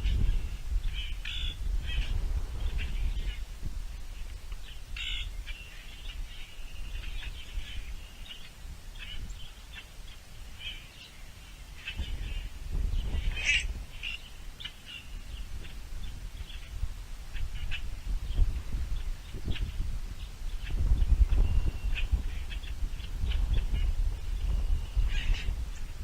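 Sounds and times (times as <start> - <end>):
birds chirping and squawking: 0.0 - 3.4, 4.6 - 9.9, 11.8 - 15.8, 16.4 - 19.8, 20.5 - 25.9.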